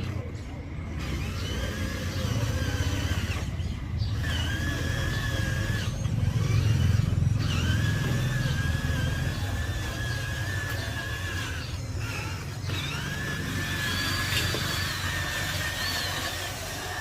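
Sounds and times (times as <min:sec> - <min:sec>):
tractor engine rumble: 0:00.0 - 0:17.0.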